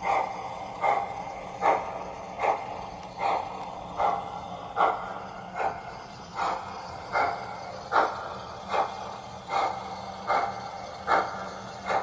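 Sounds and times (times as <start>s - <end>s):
model locomotive steam chuffs: 0.0s - 12.0s.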